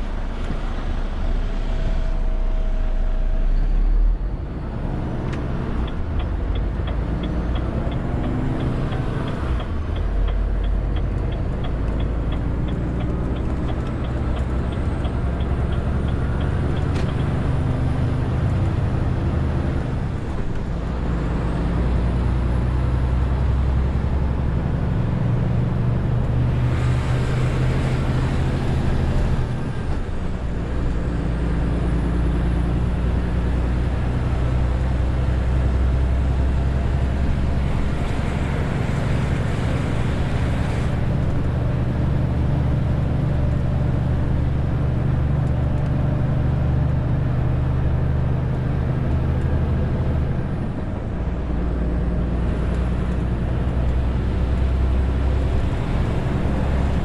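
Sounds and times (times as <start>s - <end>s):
truck diesel engine under load: 0.0s - 57.0s.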